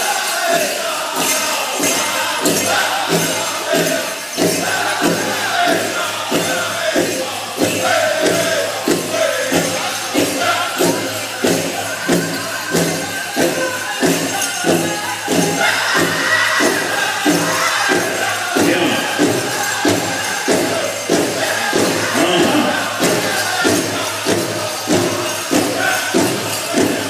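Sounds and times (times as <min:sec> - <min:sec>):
bells jingling: 0:00.0 - 0:27.0
crowd noise: 0:00.0 - 0:27.0
group singing: 0:00.0 - 0:27.0
big drum beating: 0:00.5 - 0:27.0.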